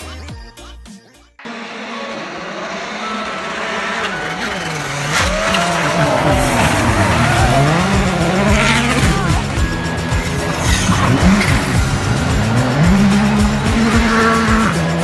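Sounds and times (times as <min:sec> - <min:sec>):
race car engine revving: 0:01.4 - 0:15.0
tyre noise: 0:02.0 - 0:15.0.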